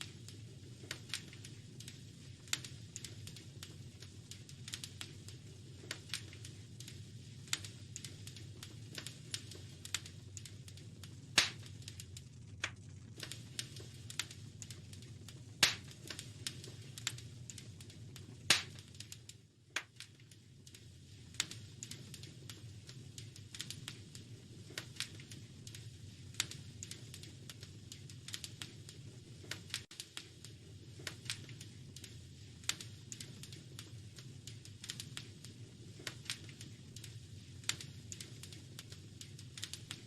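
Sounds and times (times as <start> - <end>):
low fire rumble: 0.0 - 40.0
wood fire snaps and pops: 0.0 - 40.0.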